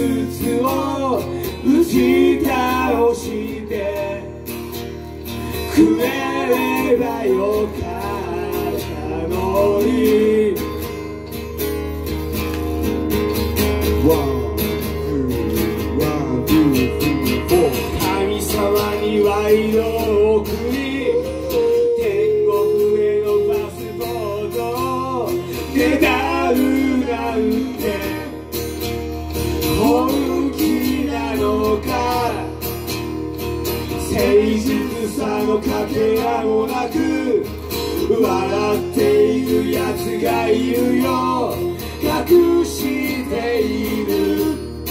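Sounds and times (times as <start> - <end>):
men singing: 0.0 - 11.0, 14.0 - 33.1, 33.8 - 44.9
strummed acoustic guitar: 0.0 - 44.9.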